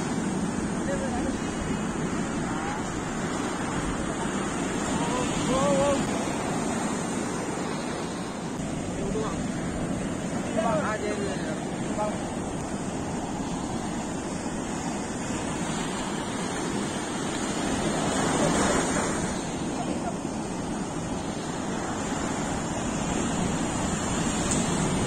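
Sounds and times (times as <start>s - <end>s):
sea surf breaking on beach: 0.0s - 25.0s.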